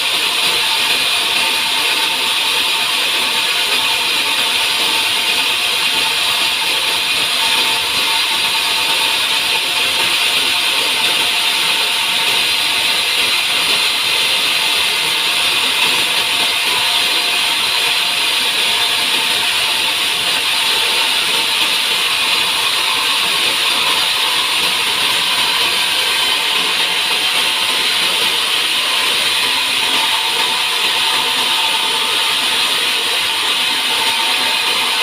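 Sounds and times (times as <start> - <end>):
saw cutting through log: 0.0 - 35.0.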